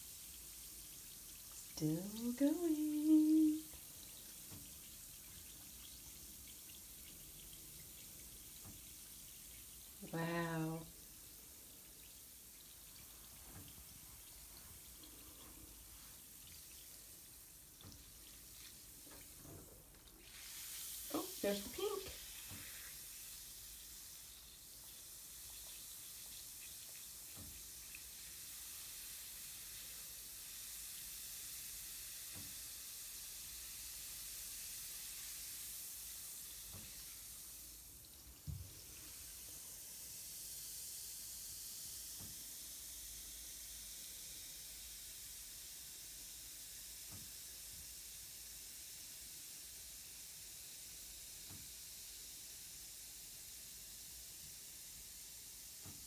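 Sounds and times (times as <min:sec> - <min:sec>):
bath bomb fizzing: 0:00.0 - 0:56.0.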